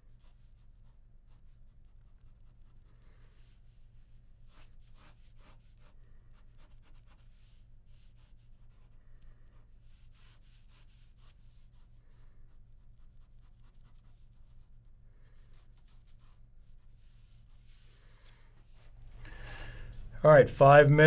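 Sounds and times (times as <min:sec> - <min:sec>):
pen scratching on paper: 0:00.0 - 0:19.0.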